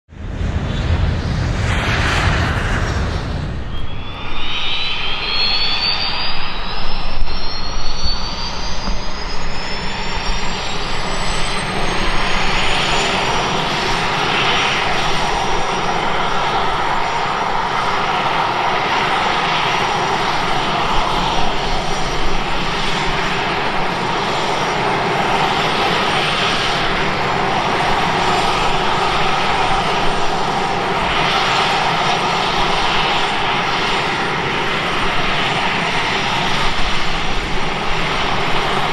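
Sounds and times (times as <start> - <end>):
turboprop engine turbine whine: 0.1 - 38.9.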